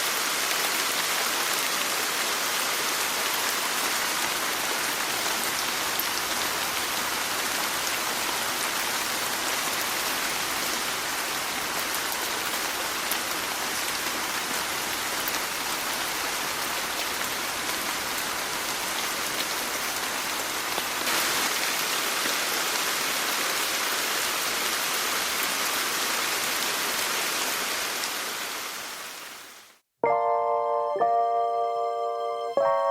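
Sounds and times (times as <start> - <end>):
steady rain falling: 0.0 - 29.8.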